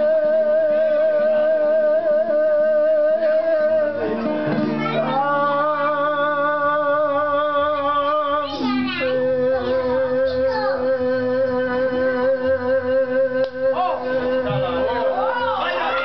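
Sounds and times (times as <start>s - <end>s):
acoustic guitar: 0.0s - 16.0s
man singing with vibrato: 0.0s - 16.0s.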